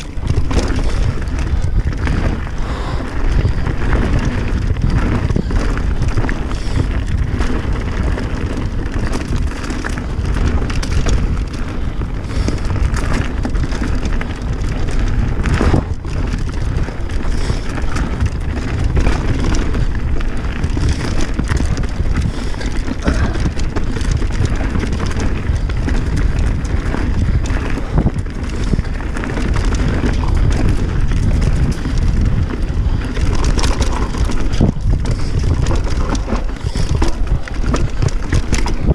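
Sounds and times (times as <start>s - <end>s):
bike tyres clattering on rough trail: 0.0s - 38.9s
wind buffeting microphone: 0.0s - 38.9s.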